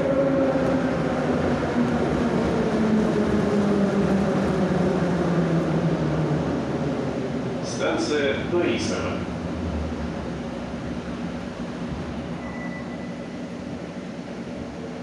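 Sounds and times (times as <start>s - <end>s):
subway train rumble and whine: 0.0s - 15.0s.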